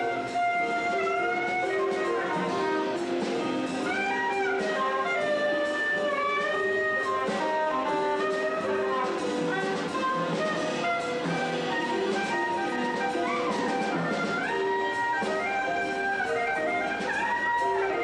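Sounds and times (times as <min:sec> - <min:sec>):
drums and cymbals: 0:00.0 - 0:18.0
soprano saxophone melody: 0:00.0 - 0:18.0.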